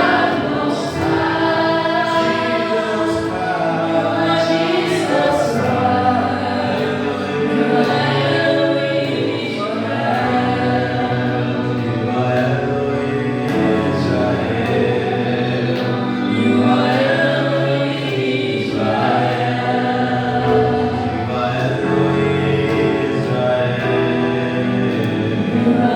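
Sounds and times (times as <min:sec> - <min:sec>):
choir singing held notes: 0:00.0 - 0:25.9.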